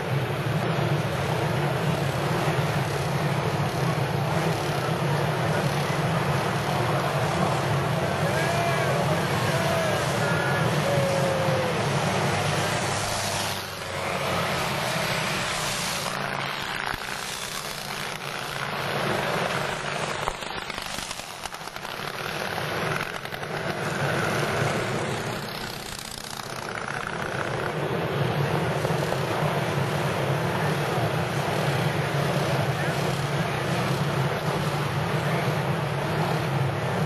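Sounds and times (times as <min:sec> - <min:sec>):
motorcycle engines passing at speed: 0:00.0 - 0:37.0.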